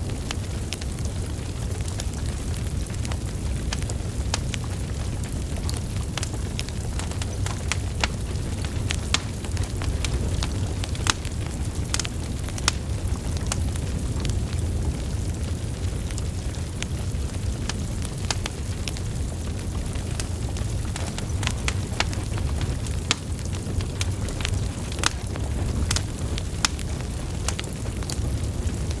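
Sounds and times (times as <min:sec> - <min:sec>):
low rumble of flames: 0:00.0 - 0:29.0
wood crackling and popping: 0:00.0 - 0:29.0.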